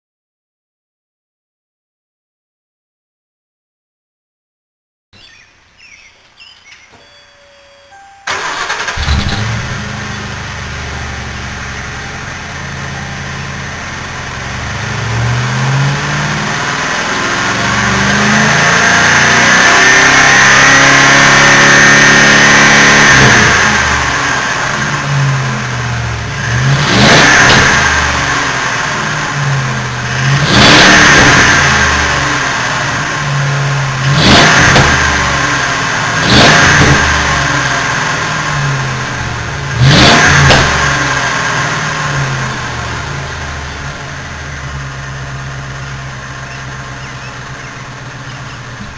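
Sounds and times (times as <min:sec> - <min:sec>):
car exhaust idling and revving: 0:08.0 - 0:48.9.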